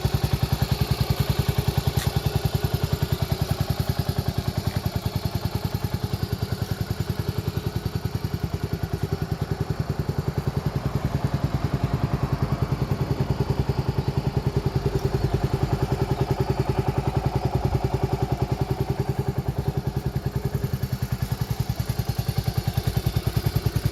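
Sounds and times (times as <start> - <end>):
scooter engine idling: 0.0 - 23.9.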